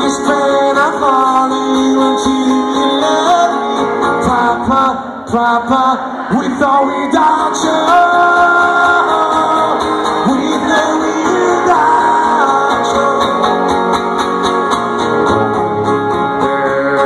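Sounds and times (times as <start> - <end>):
live rock band playing: 0.0 - 5.2, 6.1 - 17.0.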